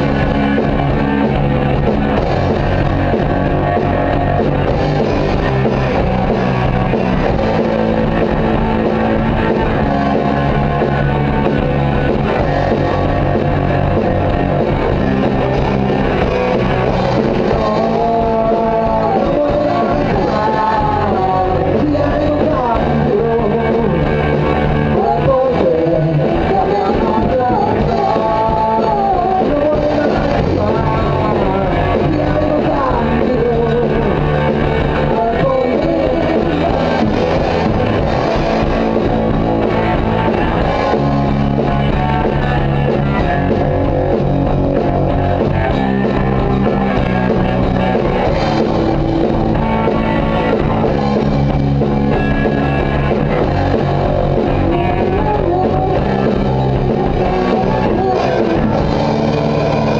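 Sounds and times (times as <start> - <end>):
person singing: 0.0 - 59.9
rock band playing live: 0.0 - 59.9.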